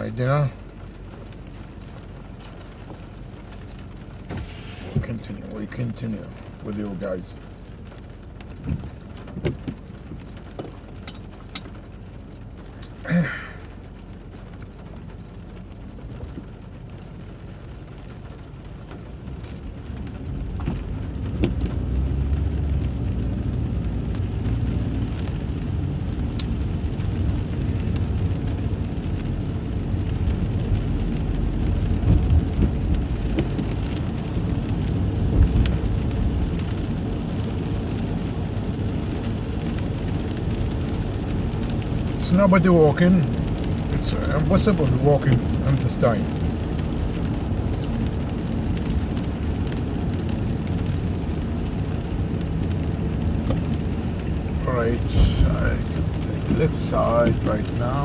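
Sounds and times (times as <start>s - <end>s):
passing traffic: 0.0s - 58.0s
rain: 0.0s - 58.0s
road and engine rumble: 0.0s - 58.0s.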